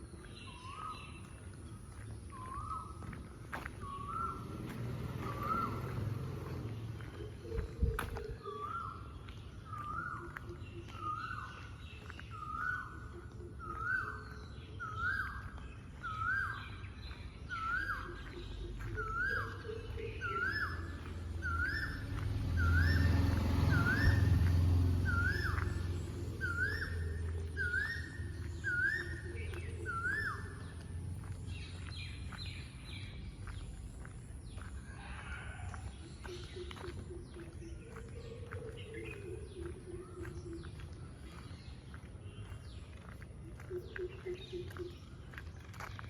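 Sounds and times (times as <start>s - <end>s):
birds chirping high: 0.0s - 46.0s.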